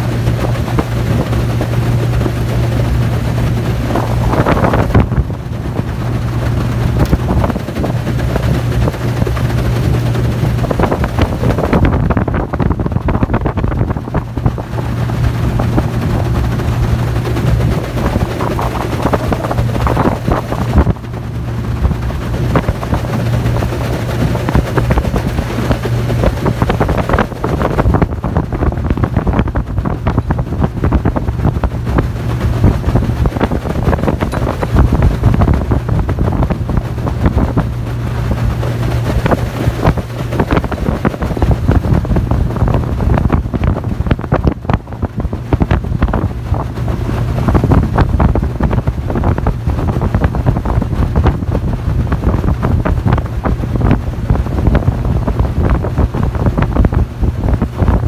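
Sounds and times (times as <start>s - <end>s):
outboard motor droning: 0.0s - 58.0s
wind buffeting on microphone: 0.0s - 58.0s.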